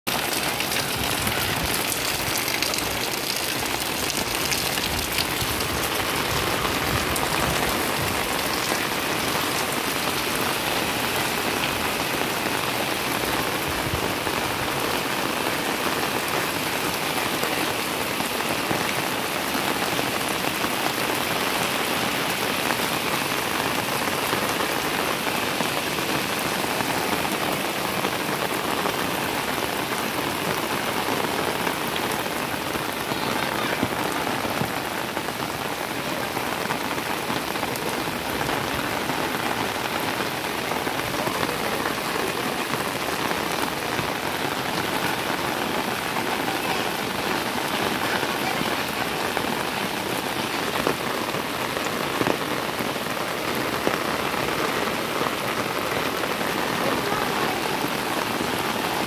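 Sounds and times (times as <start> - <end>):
heavy rain falling on water: 0.0 - 59.0.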